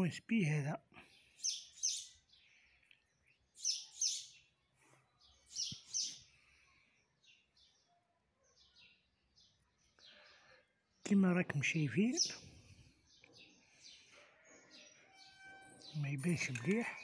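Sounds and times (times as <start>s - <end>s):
small bird chirping: 1.1s - 17.0s.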